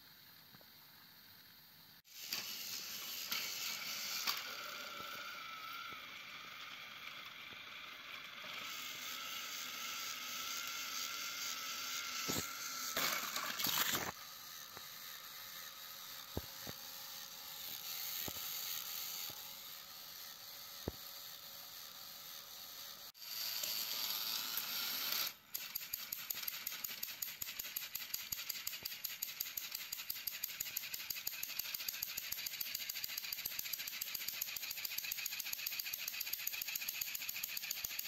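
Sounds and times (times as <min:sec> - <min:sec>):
toy train motors whining: 0:00.1 - 0:38.0
wheels rattling on plastic track: 0:02.2 - 0:05.8, 0:06.4 - 0:14.2, 0:17.5 - 0:38.0.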